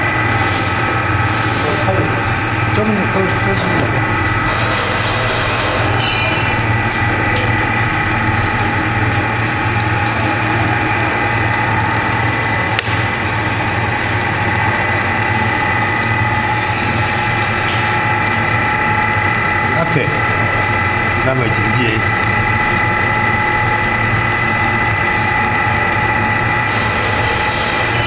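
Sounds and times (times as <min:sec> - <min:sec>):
machine humming with hiss: 0:00.0 - 0:28.0.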